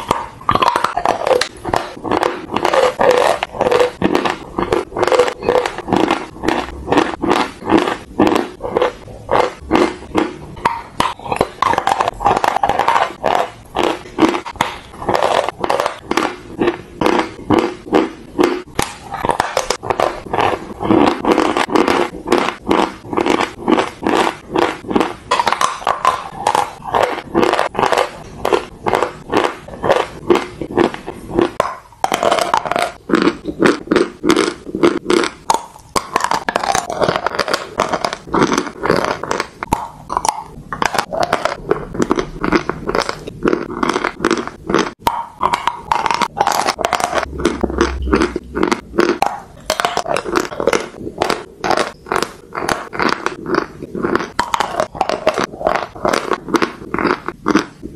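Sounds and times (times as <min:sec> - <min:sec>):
crunchy chewing: 0:00.0 - 0:57.9.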